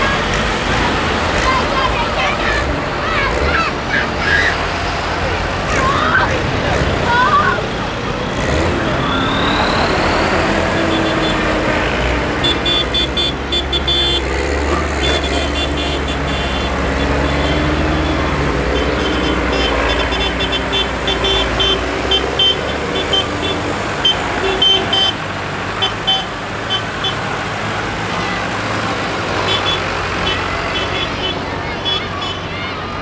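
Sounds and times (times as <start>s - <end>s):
tractors driving past: 0.0s - 33.0s.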